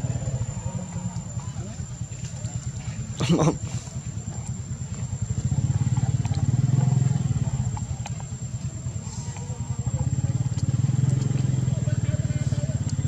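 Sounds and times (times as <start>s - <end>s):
small engine rumbling: 0.0s - 13.0s.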